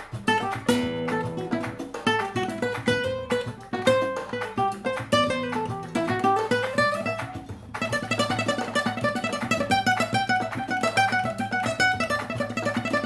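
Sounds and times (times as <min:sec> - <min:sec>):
flamenco guitar playing: 0:00.0 - 0:13.0.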